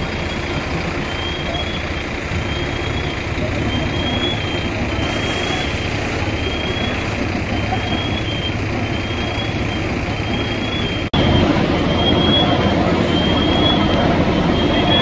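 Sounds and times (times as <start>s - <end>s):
fire truck engine running: 0.0s - 15.0s.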